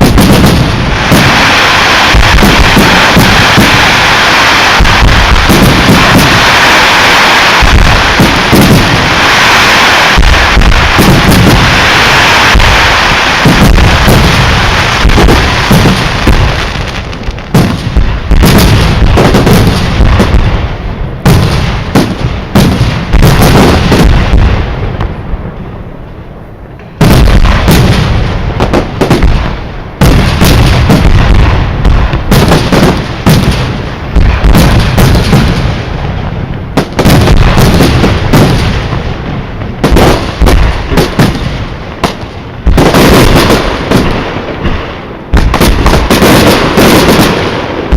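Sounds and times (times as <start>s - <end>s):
firework shells booming: 0.0s - 25.6s, 26.8s - 47.9s
fireworks crackling: 0.0s - 47.9s.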